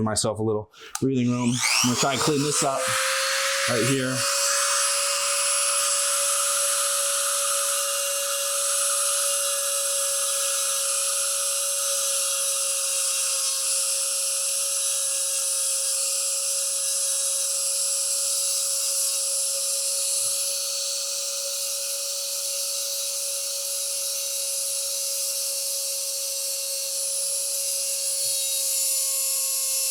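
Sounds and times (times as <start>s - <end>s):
rotary tool whining: 0.9s - 29.9s.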